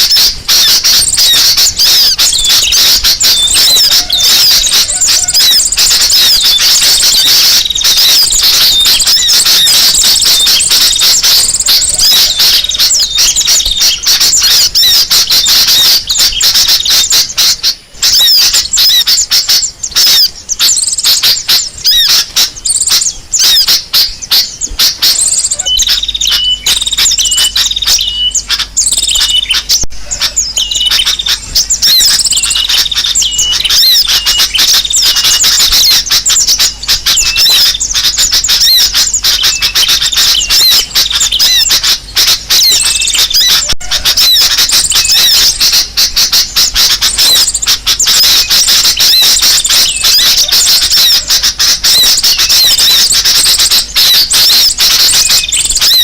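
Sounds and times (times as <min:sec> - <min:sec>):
small birds chattering: 0:00.0 - 0:56.0.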